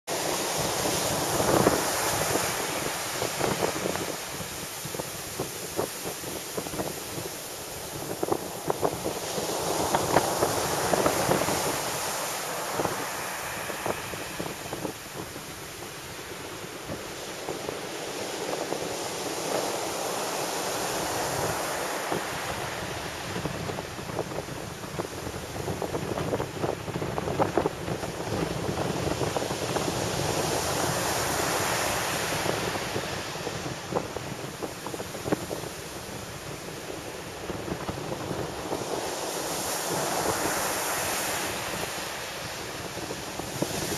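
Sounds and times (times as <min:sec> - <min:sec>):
waves crashing on beach: 0:00.0 - 0:43.9.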